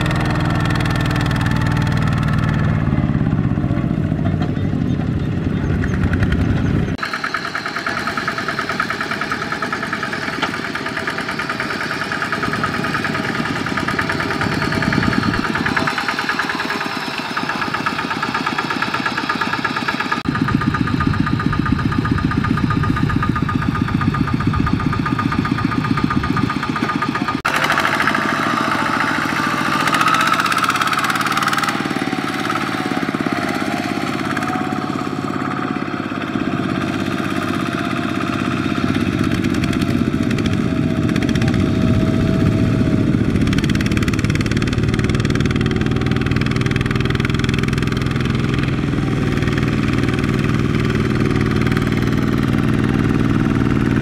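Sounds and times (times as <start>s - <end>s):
diesel tractor engines chugging: 0.0s - 54.0s.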